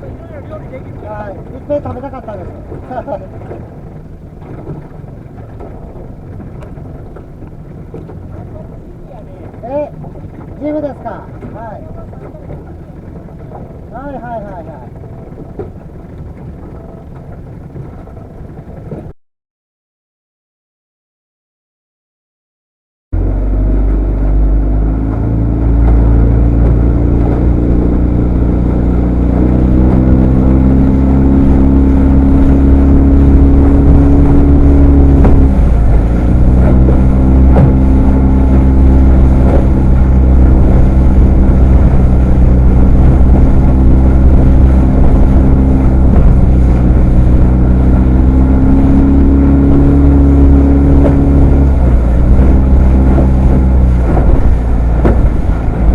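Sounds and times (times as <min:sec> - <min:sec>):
motorboat engine running: 0:00.0 - 0:19.1, 0:23.2 - 0:55.9
wind buffeting microphone: 0:00.0 - 0:19.1, 0:23.2 - 0:55.9.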